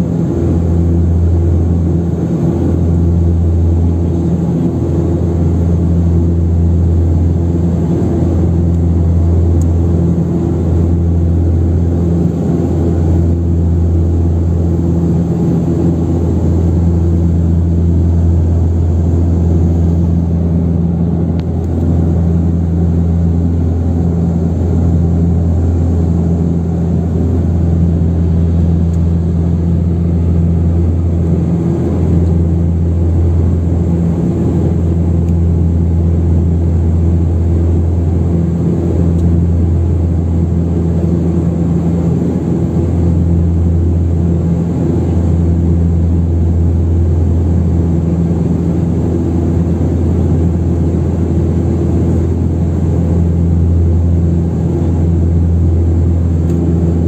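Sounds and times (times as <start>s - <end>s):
turboprop cabin drone: 0.0s - 57.0s.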